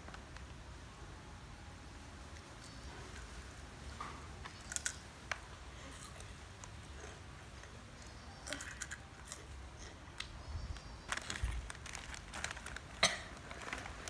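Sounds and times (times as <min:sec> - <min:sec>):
crispy snack being chewed: 0:02.4 - 0:14.0.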